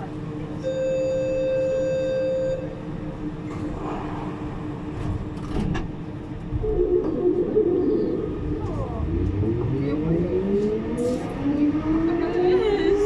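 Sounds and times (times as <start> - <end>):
metro train rumbling in tunnel: 0.0 - 13.0.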